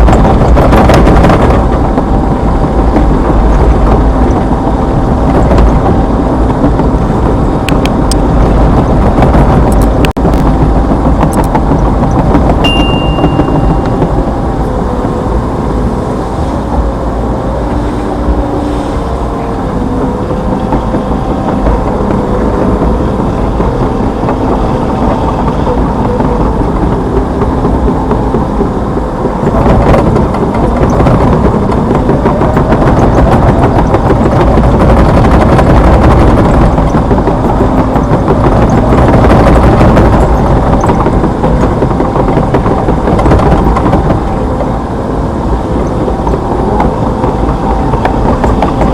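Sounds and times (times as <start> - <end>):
excavator diesel engine running: 0.0 - 48.9
wavering whine: 0.0 - 48.9.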